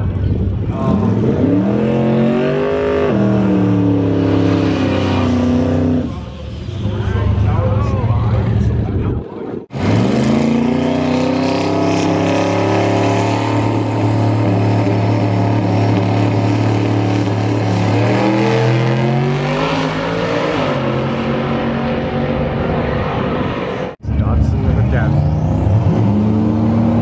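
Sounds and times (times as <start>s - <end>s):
race car engine at high revs: 0.0s - 6.3s, 8.4s - 27.0s.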